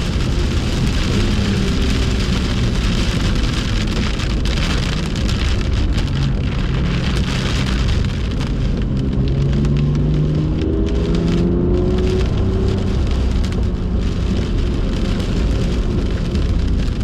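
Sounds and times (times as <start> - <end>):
car engine at speed: 0.0 - 17.0
heavy rain and road spray: 0.0 - 17.0.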